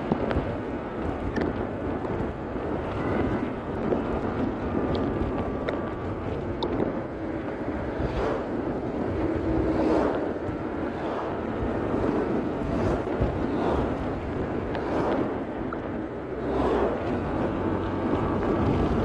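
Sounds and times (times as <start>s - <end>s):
road noise: 0.0s - 19.0s
wind rushing over microphone: 0.0s - 19.0s.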